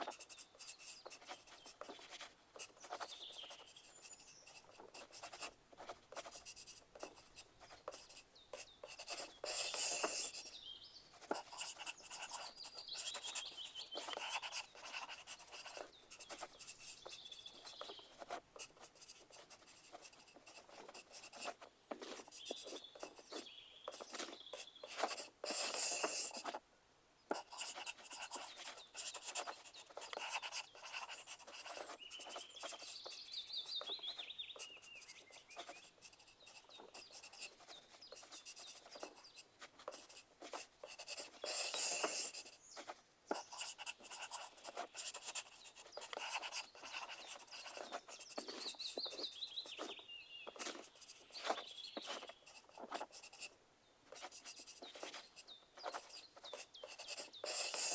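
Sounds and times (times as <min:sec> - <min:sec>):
pencil scratching on paper: 0:00.0 - 0:10.6, 0:11.2 - 0:26.6, 0:27.3 - 0:57.9.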